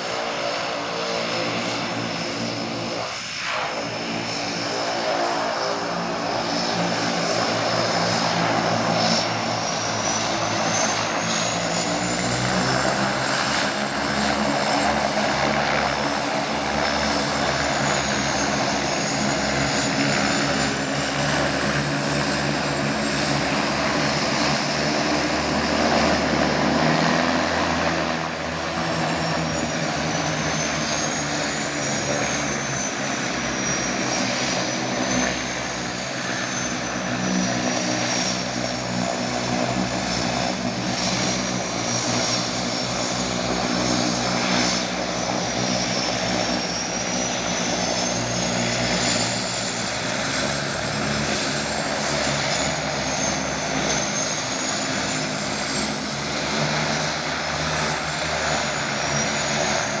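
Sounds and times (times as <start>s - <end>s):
high turbine whine: 0.0s - 60.0s
turboprop engines running: 0.0s - 60.0s.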